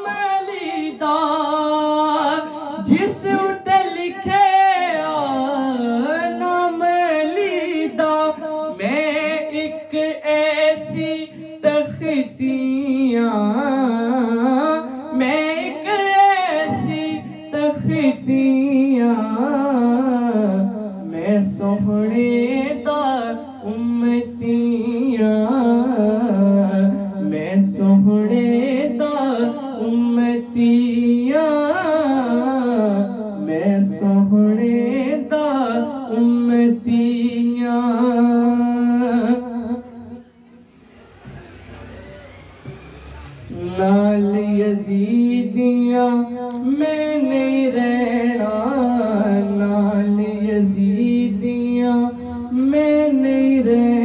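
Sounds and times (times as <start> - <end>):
man singing into a microphone: 0.0 - 40.7, 43.5 - 54.0.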